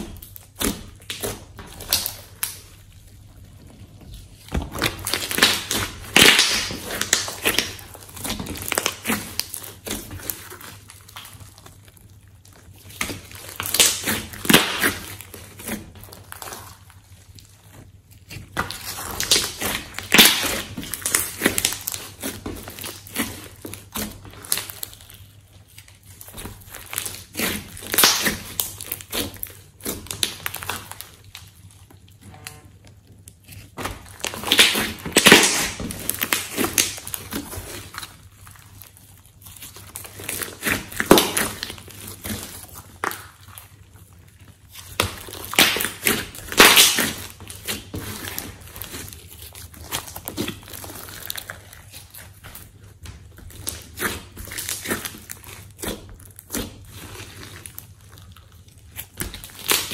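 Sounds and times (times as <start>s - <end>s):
slime crackling and popping: 0.0s - 59.9s.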